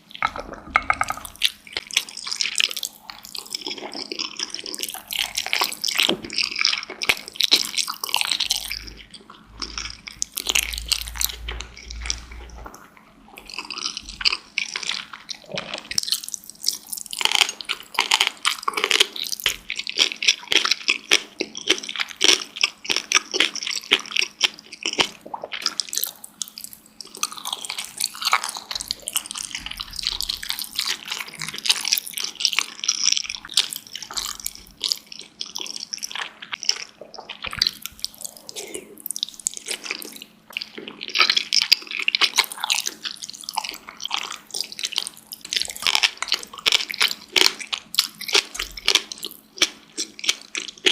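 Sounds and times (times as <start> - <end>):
wet chewing and mouth smacking: 0.0 - 50.9.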